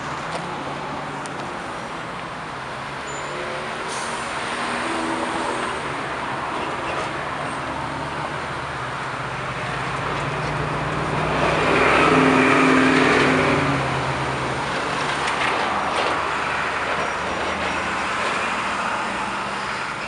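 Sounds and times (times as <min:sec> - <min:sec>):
bus engine passing: 0:00.0 - 0:20.0
cars passing in traffic: 0:00.0 - 0:20.0.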